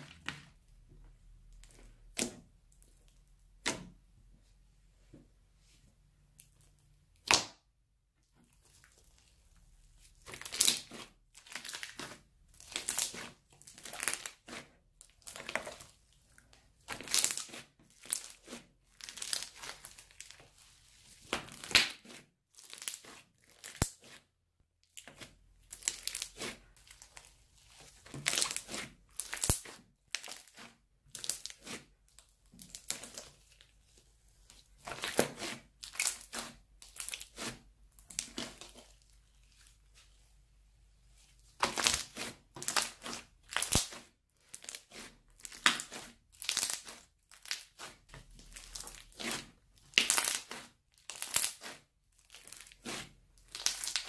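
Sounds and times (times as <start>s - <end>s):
crunchy slime crackling: 8.6s - 24.2s, 24.9s - 40.0s, 41.4s - 54.0s.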